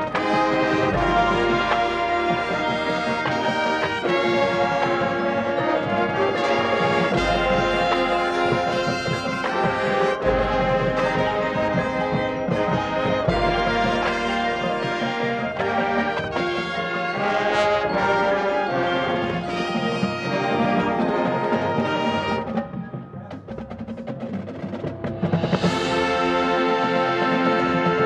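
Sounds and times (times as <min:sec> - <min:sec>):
brass chords: 0:00.0 - 0:23.1, 0:25.3 - 0:28.0
marching band playing: 0:00.0 - 0:28.0.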